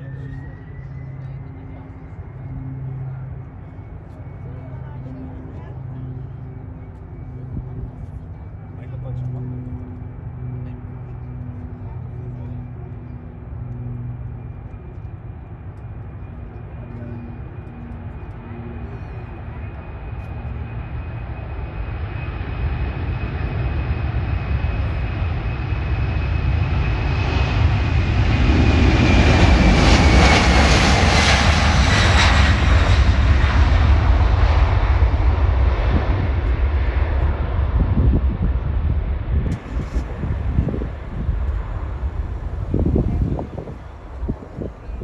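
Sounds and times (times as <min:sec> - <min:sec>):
deep jet rumble: 0:00.0 - 0:45.0
jet engines whining: 0:00.0 - 0:45.0.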